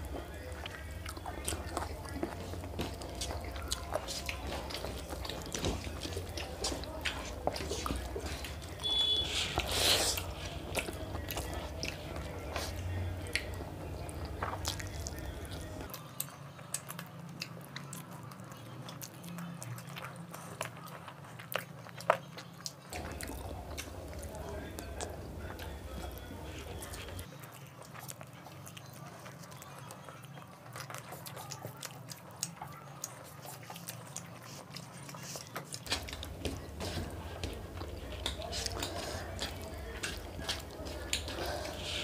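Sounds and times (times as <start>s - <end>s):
people chewing with wet smacks: 0.0s - 42.0s.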